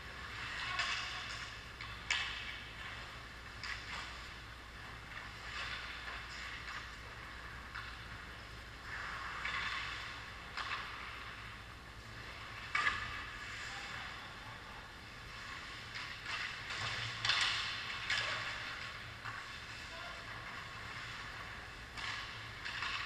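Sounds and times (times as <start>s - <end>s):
low steady hum: 0.0s - 23.0s
hockey sticks and puck knocking: 0.2s - 8.5s, 9.2s - 11.4s, 12.2s - 13.5s, 15.4s - 23.0s.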